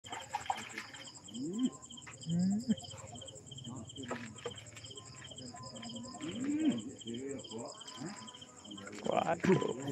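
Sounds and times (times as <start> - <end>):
crickets chirping: 0.0 - 9.9.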